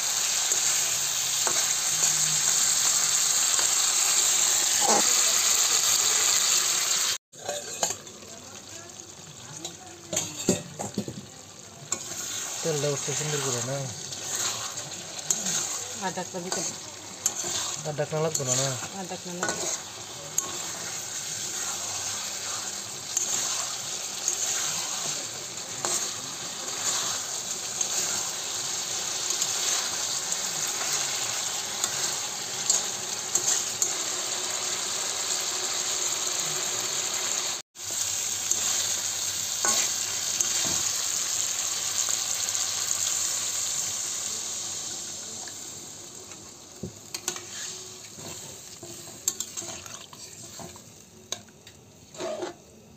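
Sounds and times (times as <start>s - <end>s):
curry sizzling in oil: 0.0s - 52.9s.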